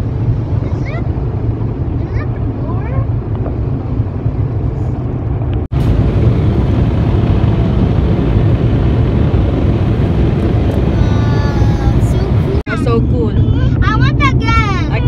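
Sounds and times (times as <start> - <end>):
car wash machinery roaring: 0.0 - 15.0.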